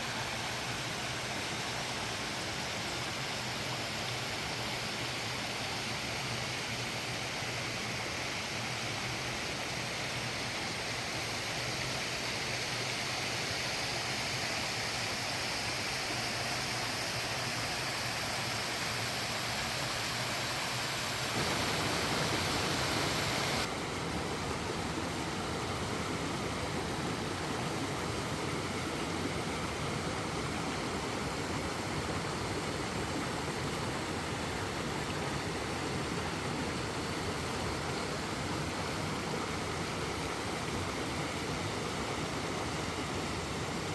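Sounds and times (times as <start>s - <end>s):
stream water flowing: 0.0s - 43.9s.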